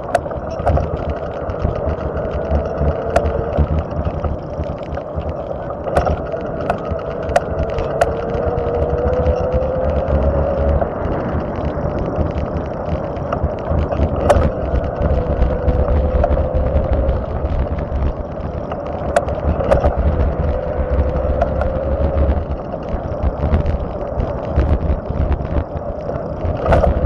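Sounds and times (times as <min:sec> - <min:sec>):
faint steady whine: 0:00.0 - 0:27.0
sharp clicks: 0:00.0 - 0:27.0
tyres rumbling on asphalt: 0:00.0 - 0:27.0.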